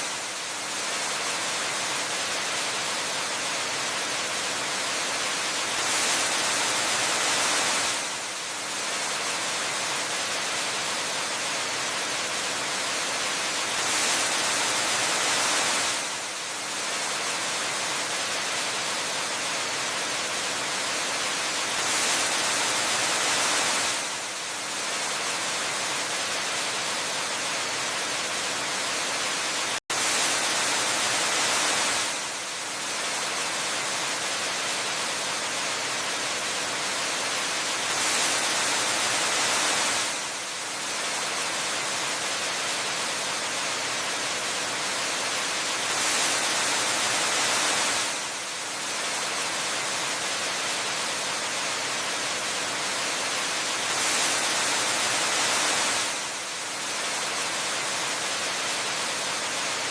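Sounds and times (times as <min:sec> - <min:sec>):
waterfall hiss: 0:00.0 - 0:59.9.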